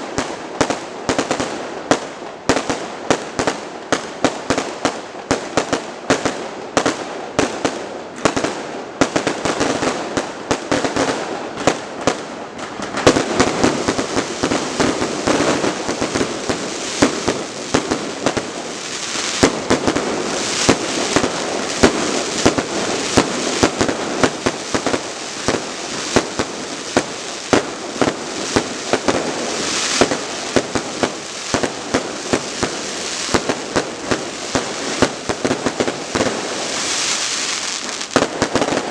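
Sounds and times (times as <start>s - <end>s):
fireworks bangs: 0.0s - 38.9s
fireworks bursts din: 0.0s - 38.9s.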